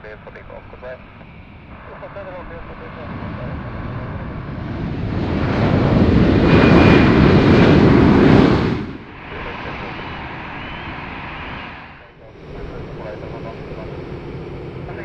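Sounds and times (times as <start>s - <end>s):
jet airliner engine roar: 0.0s - 15.0s
thin high engine whine: 0.0s - 15.0s.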